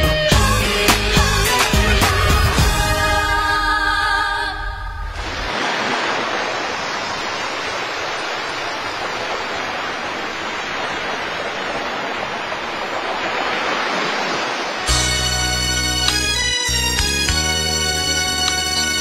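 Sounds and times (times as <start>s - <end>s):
waves rushing: 0.6s - 16.4s.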